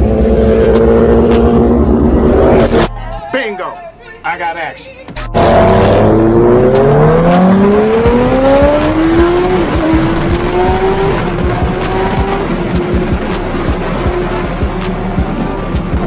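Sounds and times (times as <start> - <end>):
motorcycle engine accelerating: 0.0 - 2.9, 5.3 - 16.0.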